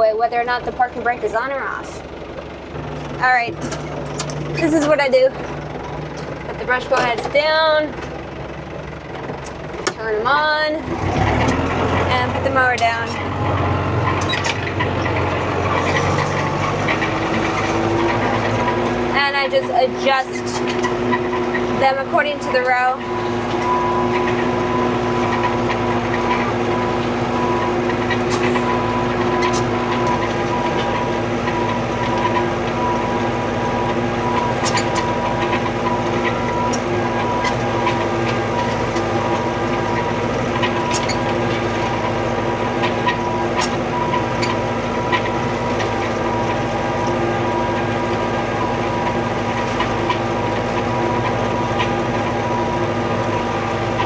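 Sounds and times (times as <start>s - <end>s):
tractor engine running: 0.0s - 54.0s
sharp clicks and rattles: 0.5s - 53.3s.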